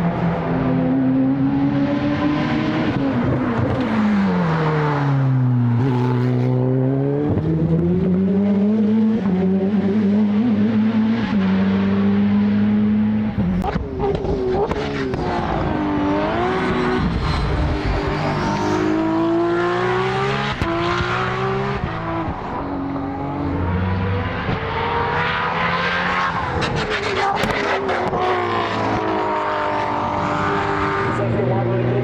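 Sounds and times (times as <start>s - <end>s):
race car engines accelerating: 0.0s - 32.0s.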